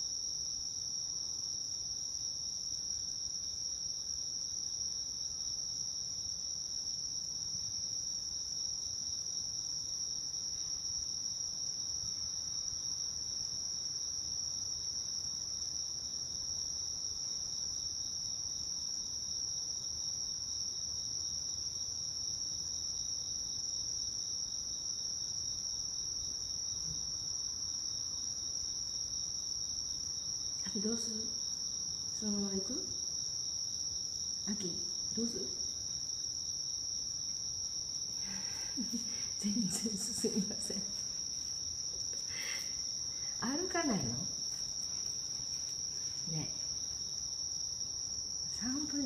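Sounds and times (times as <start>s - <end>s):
night insects chirping: 0.0s - 49.0s.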